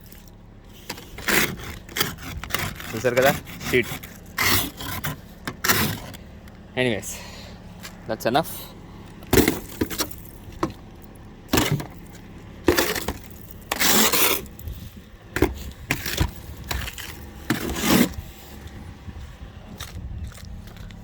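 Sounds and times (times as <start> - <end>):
ice crunching and cracking: 0.0 - 6.6, 9.2 - 18.8, 19.7 - 21.0.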